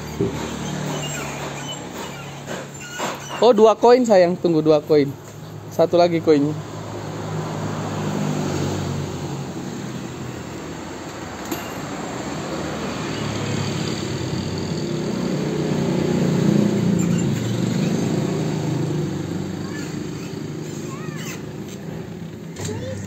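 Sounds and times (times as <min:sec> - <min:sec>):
vehicle engines passing by: 0:00.0 - 0:23.0.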